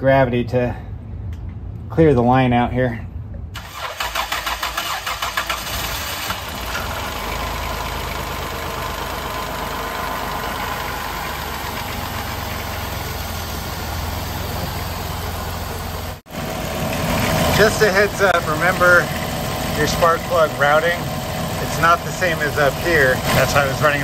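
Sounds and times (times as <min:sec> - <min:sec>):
car engine cranking and idling: 0:03.5 - 0:24.0.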